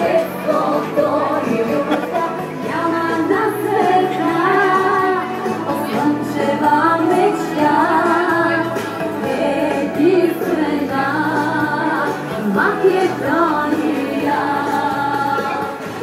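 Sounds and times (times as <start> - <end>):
music with woman singing: 0.0 - 16.0.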